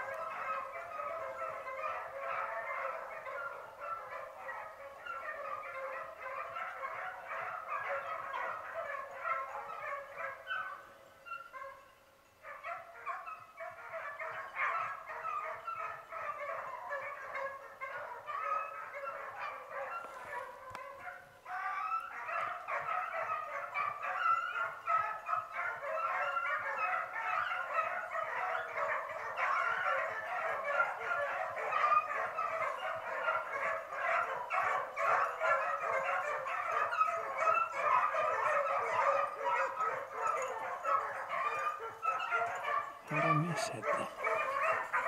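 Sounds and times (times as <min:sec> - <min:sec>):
dogs baying: 0:00.0 - 0:11.8, 0:12.5 - 0:45.0.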